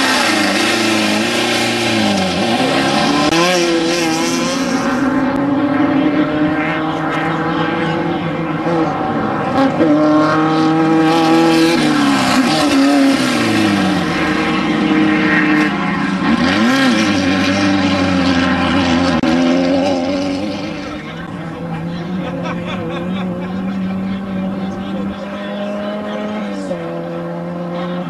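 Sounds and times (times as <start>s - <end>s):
race vehicle engines revving: 0.0s - 28.0s.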